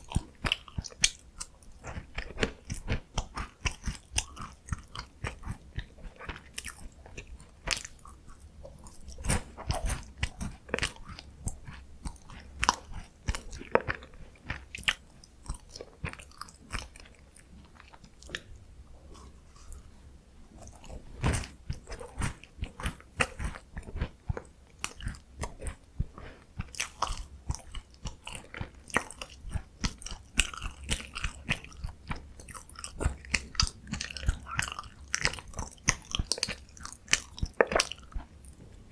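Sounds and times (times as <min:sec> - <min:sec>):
crunchy snack chewing: 0:00.0 - 0:18.5, 0:20.6 - 0:38.7.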